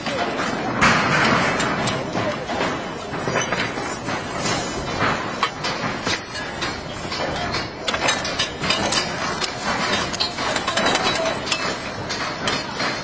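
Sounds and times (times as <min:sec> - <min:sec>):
noisy background: 0:00.0 - 0:13.0.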